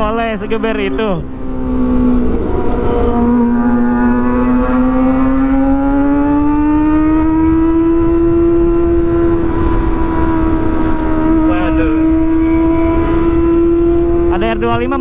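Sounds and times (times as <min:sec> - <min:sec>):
motorcycle engine accelerating: 0:00.0 - 0:15.0
wind and road rumble: 0:00.0 - 0:15.0.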